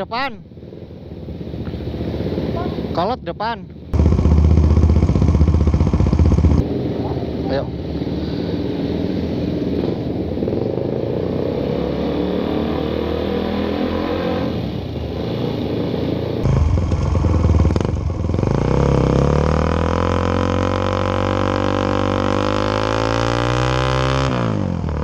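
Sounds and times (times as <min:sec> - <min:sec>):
motorcycle engine at low revs: 0:03.8 - 0:25.0.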